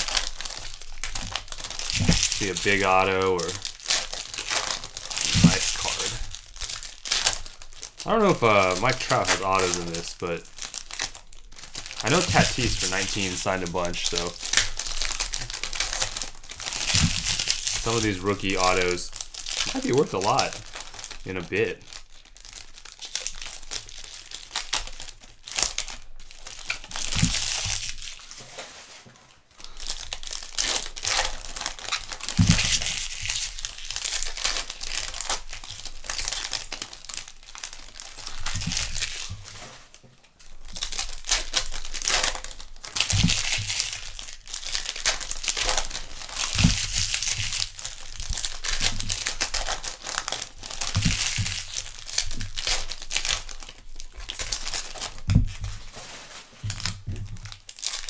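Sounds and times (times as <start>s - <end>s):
wrappers tearing and crinkling: 0.0s - 58.0s.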